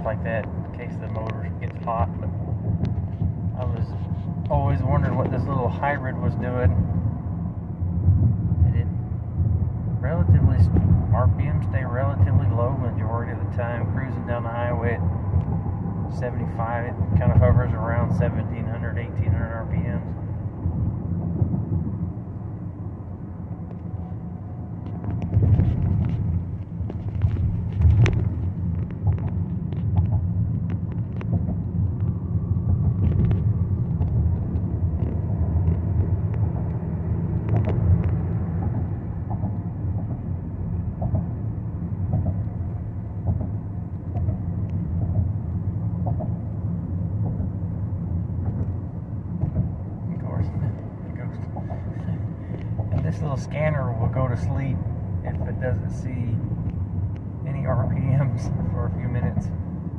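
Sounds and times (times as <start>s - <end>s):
road and drivetrain rumble in car: 0.0s - 59.9s.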